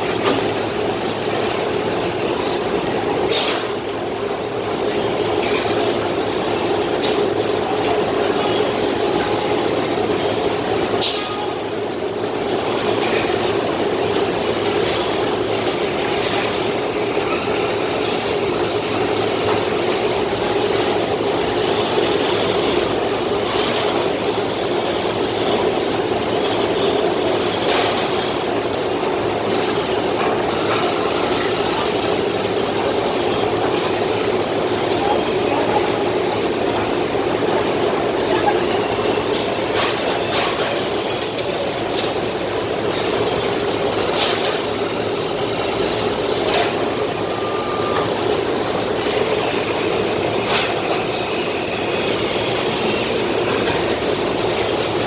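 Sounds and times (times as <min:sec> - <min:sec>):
industrial machinery humming: 0:00.0 - 0:55.0.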